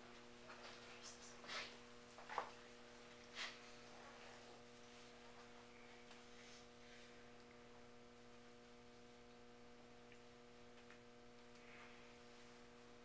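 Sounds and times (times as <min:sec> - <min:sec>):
faint mains hum: 0:00.0 - 0:13.0.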